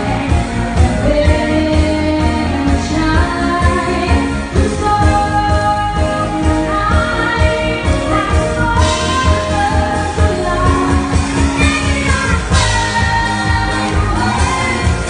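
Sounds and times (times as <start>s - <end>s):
band with drum kit beat: 0.0s - 15.0s
woman singing into a microphone: 0.0s - 15.0s.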